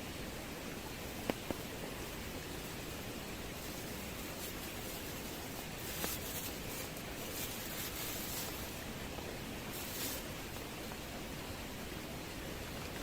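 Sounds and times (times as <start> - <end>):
heavy rain hissing: 1.0 - 12.8.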